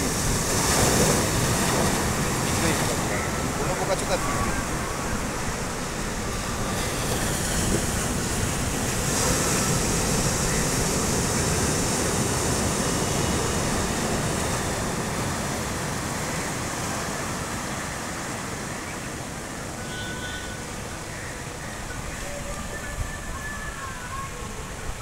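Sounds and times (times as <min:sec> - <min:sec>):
sea waves breaking on beach: 0:00.0 - 0:25.0.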